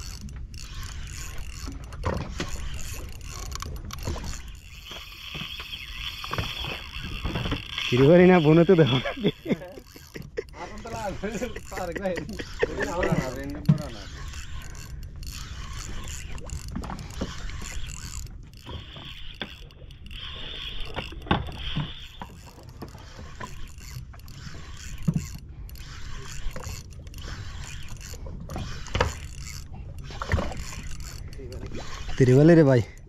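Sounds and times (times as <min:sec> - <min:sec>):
boat engine hum: 0:00.0 - 0:33.0
fishing reel ticking: 0:00.0 - 0:33.0.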